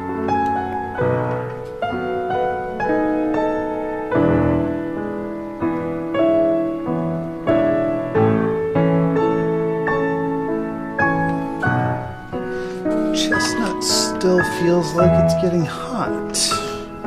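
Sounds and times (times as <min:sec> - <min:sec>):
gentle solo piano piece: 0:00.0 - 0:17.0.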